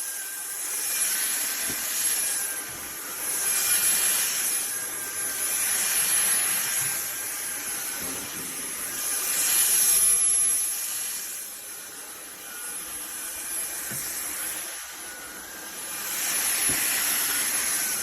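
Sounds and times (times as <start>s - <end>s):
vacuum cleaner motor whine: 0.0s - 18.0s.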